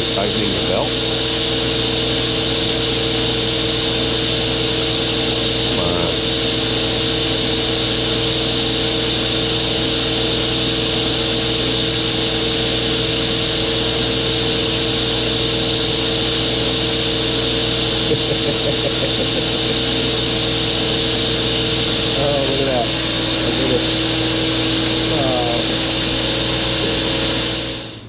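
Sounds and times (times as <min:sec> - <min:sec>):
table saw running: 0:00.0 - 0:28.0.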